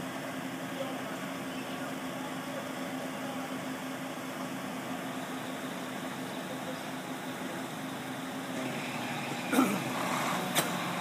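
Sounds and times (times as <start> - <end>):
crane engine humming: 0.0 - 11.0.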